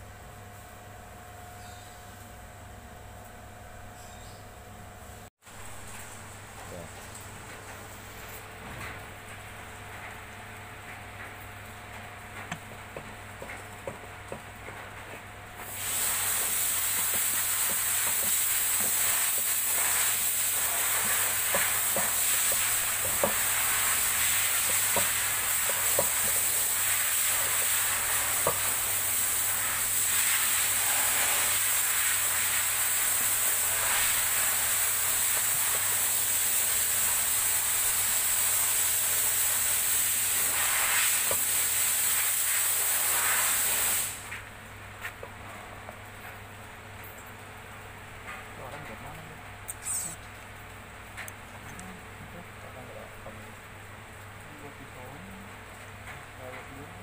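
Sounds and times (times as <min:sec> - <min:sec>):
loud static hiss: 0:00.0 - 0:01.5, 0:04.8 - 0:57.0.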